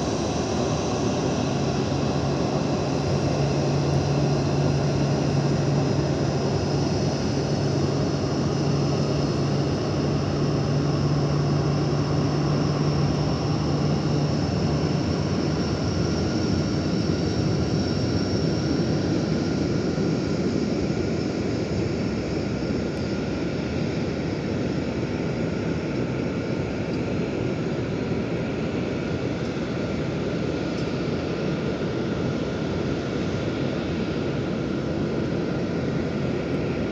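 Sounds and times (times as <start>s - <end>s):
jet engines rushing and whining: 0.0s - 36.9s.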